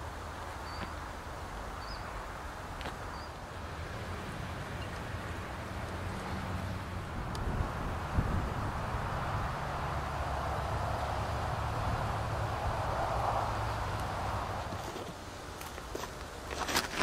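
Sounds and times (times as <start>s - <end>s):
wind hiss: 0.0s - 17.0s.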